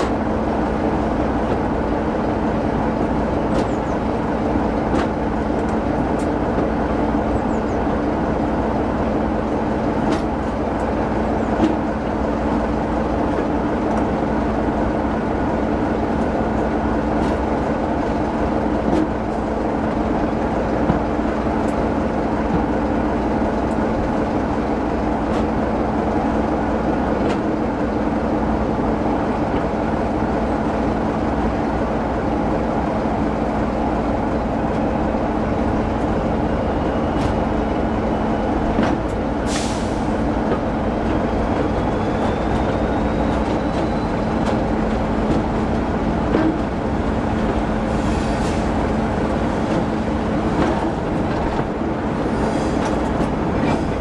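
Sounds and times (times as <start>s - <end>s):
carriage rumbling on rails: 0.0s - 54.0s
locomotive engine drone: 0.0s - 54.0s.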